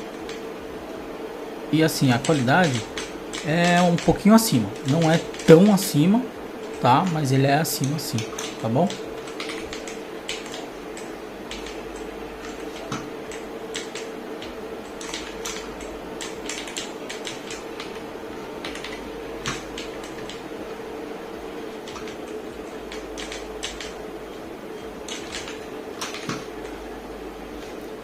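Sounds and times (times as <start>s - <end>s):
steady hum: 0.0s - 28.0s
keyboard keys clacking: 1.8s - 20.8s, 21.6s - 26.9s.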